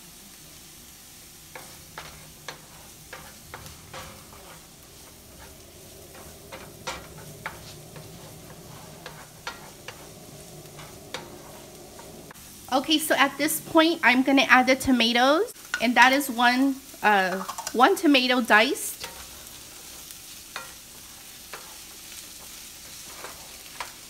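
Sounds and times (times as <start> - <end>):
onion and garlic sizzling in oil: 0.0 - 24.0.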